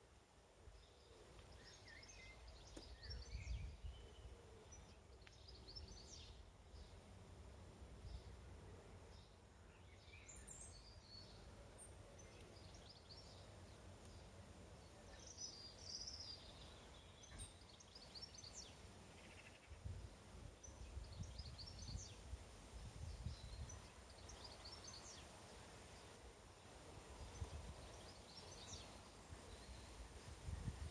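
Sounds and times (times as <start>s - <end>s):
faint birds chirping: 0.0s - 30.9s.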